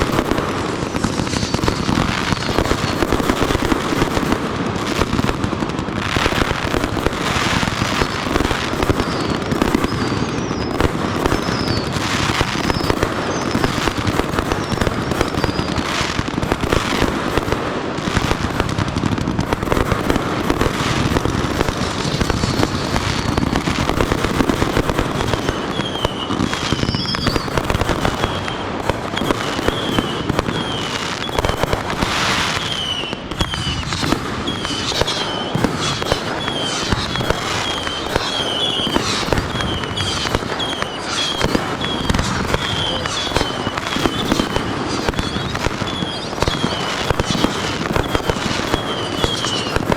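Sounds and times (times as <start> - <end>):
firework whistles: 0.0 - 5.4, 6.0 - 49.9
fireworks bangs and crackling: 0.0 - 49.9.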